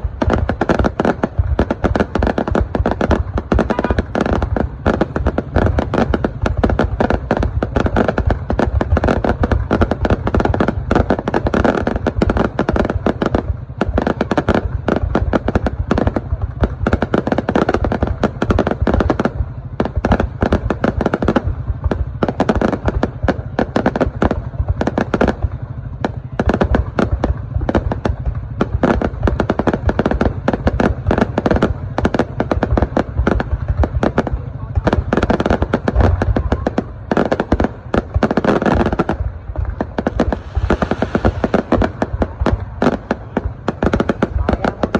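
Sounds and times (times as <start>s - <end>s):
deep rumble: 0.0s - 44.9s
fireworks bangs and crackling: 0.0s - 44.9s.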